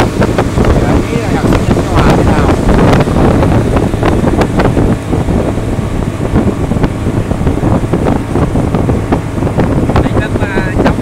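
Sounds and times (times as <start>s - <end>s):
boat engine: 0.0s - 11.0s
rushing water: 0.0s - 11.0s
wind buffeting microphone: 0.0s - 11.0s.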